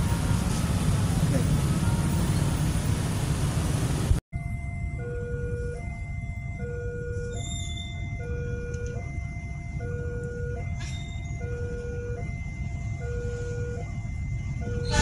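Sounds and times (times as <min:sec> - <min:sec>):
two-tone railway warning alarm: 0:00.0 - 0:03.0, 0:04.4 - 0:15.0.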